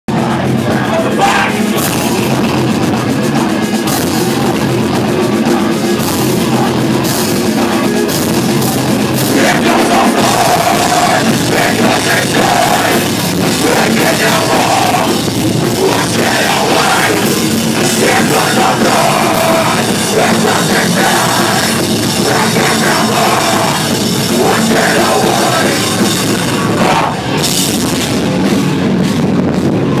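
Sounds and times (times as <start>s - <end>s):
drum kit: 0.1s - 30.0s
rock band playing live: 0.1s - 30.0s.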